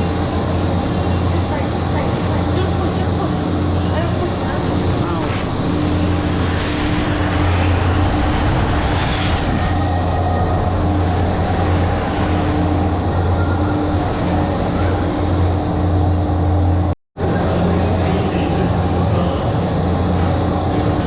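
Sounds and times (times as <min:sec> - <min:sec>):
machine drone with deep hum: 0:00.0 - 0:21.0.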